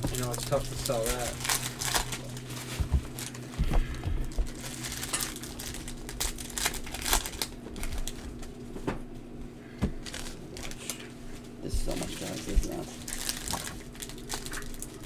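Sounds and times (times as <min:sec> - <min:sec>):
card wrappers crinkling: 0:00.0 - 0:08.6, 0:10.0 - 0:11.1, 0:11.9 - 0:15.0
steady low hum: 0:00.0 - 0:15.0.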